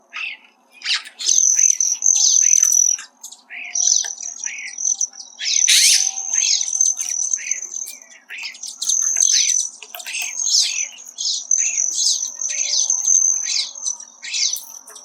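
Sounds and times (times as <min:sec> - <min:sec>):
birds chirping: 0:00.0 - 0:15.0
thin high steady tone: 0:01.0 - 0:15.0.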